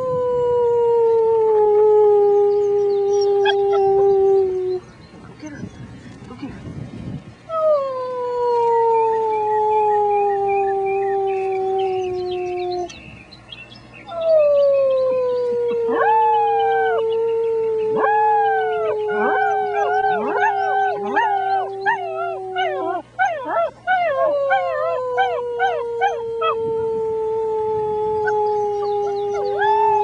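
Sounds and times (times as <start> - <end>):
puppy long falling howl: 0.0 - 4.8, 7.5 - 12.9, 14.1 - 30.0.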